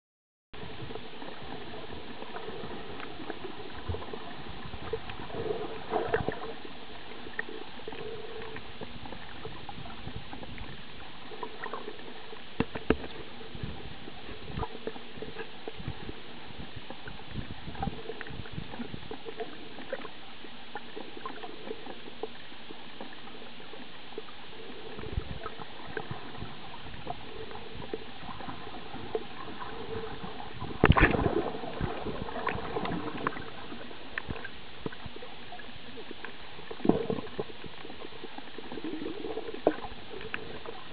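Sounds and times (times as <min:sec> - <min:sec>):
underwater water hiss: 0:00.7 - 0:40.9.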